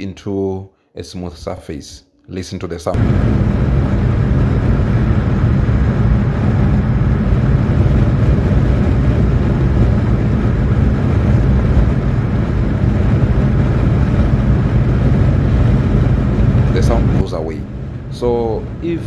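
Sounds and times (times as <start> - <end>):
car tyre road noise: 3.0 - 19.0.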